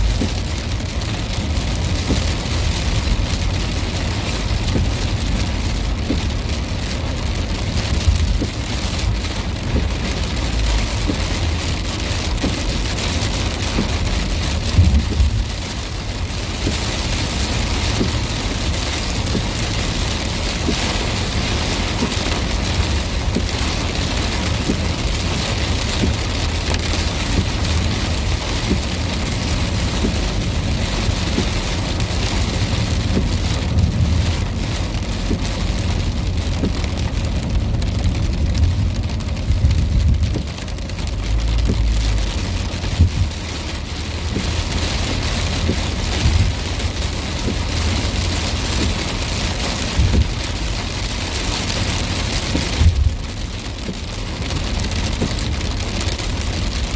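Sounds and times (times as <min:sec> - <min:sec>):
heavy rain on car windscreen: 0:00.0 - 0:56.9
low road rumble: 0:00.0 - 0:56.9.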